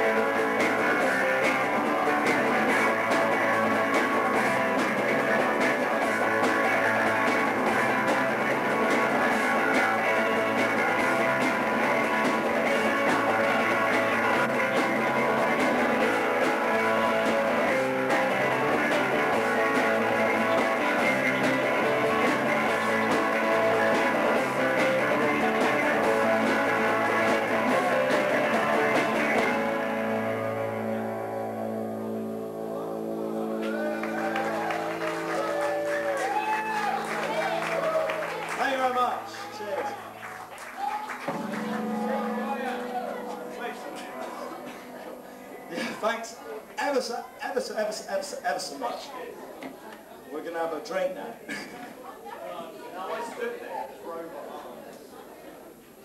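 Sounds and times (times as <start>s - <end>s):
live rock band playing: 0.0s - 46.1s.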